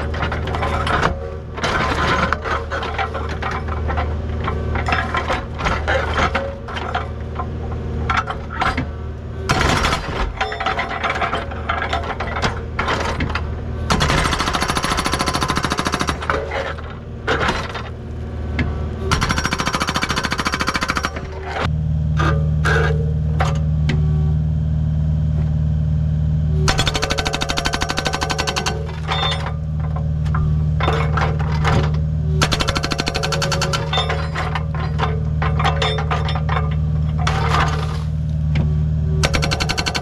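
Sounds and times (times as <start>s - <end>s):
hydraulic breaker hammering: 0.0s - 17.9s, 18.6s - 23.7s, 26.6s - 40.0s
diesel engine running: 0.0s - 40.0s.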